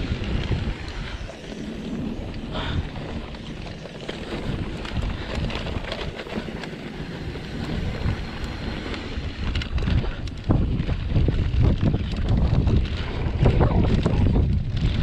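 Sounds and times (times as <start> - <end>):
bike rattling and clicking: 0.0 - 15.0
wind buffeting microphone: 0.0 - 15.0.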